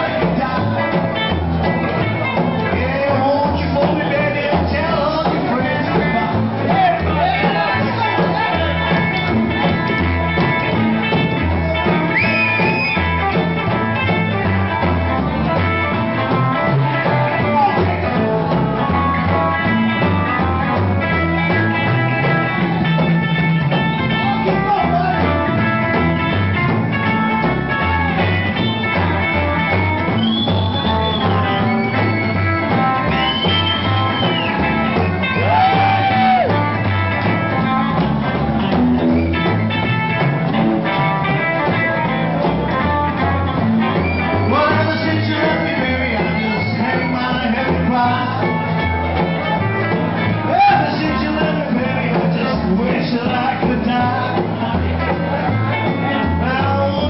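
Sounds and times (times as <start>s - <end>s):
live rock and roll band: 0.0s - 57.0s.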